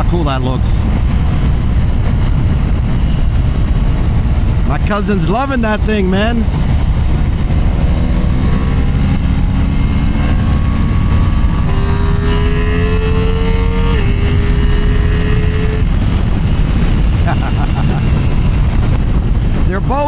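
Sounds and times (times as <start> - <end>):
motorcycle engine at road speed: 0.0 - 20.0
wind and road noise: 0.0 - 20.0.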